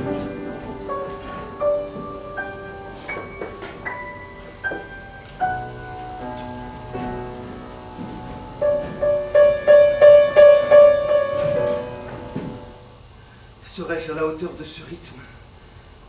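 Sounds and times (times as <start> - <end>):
piano notes: 0.0 - 13.0.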